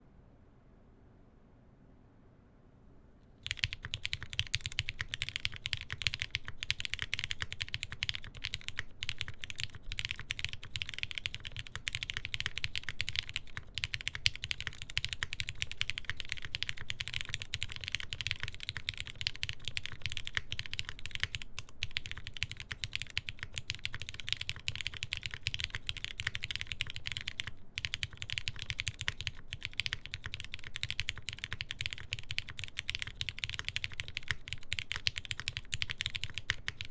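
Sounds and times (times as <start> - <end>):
mechanical keyboard typing: 3.4 - 36.9.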